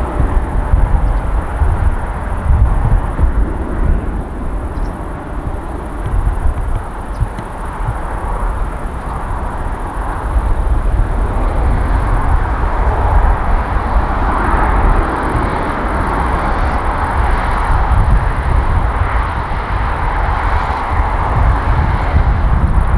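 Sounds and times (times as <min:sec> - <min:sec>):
jet engines roaring: 0:00.0 - 0:22.9.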